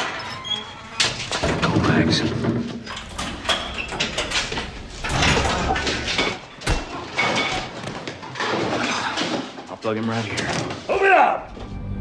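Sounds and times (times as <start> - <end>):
doors and metal fittings clattering: 0.0 - 10.8.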